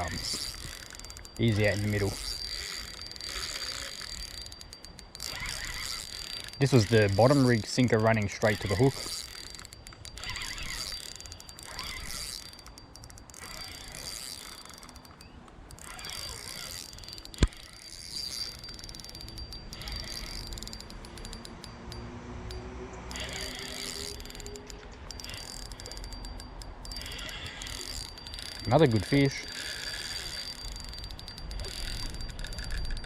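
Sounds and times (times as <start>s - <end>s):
fishing reel clicking and whirring: 0.0s - 33.0s.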